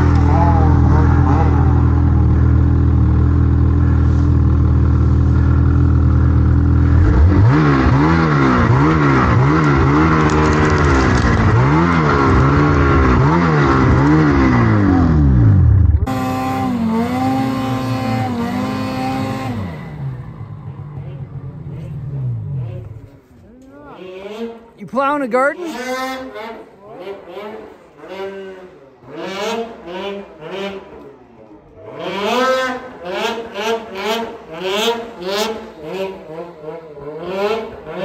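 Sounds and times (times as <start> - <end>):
second snowmobile engine revving: 0.0 - 31.1, 31.7 - 38.0
snowmobile engine revving: 0.0 - 31.1, 31.7 - 38.0.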